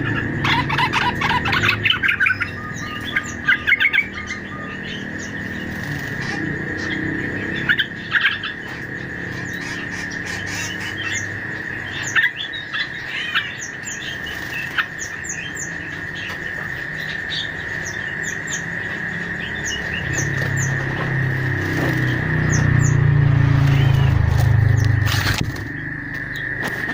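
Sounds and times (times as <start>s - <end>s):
small songbirds chirping: 0.0s - 26.9s
steady high-pitched hum: 0.0s - 26.9s.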